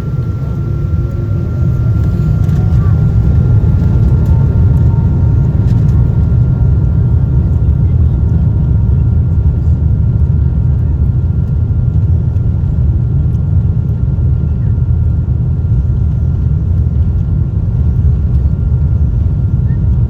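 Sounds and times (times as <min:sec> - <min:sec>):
high engine whine: 0:00.0 - 0:20.0
jet engine rumble in cabin: 0:00.0 - 0:20.0.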